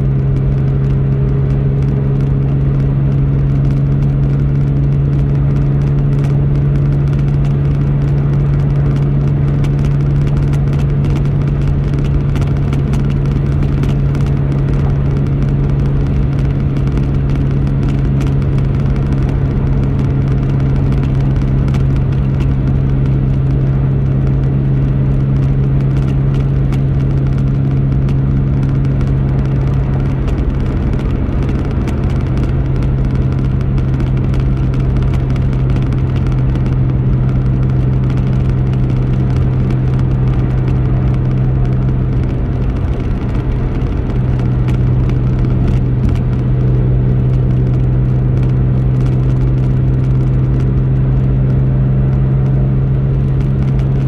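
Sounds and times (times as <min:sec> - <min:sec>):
car driving on highway: 0:00.0 - 0:54.0
road and tyre noise: 0:00.0 - 0:54.0.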